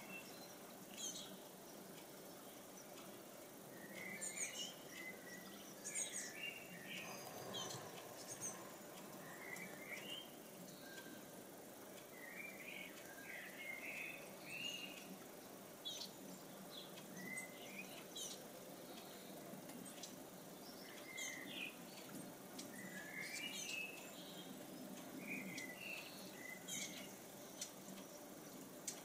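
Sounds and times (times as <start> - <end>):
fountain water trickling: 0.0 - 29.0
songbirds chirping: 0.0 - 29.0.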